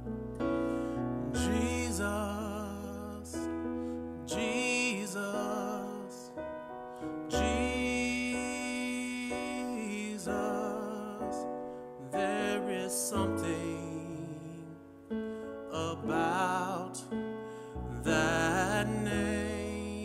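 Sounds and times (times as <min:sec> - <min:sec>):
keyboard accompaniment: 0:00.0 - 0:20.0
person singing with vibrato: 0:00.8 - 0:06.4, 0:07.2 - 0:14.9, 0:15.7 - 0:17.2, 0:17.9 - 0:20.0.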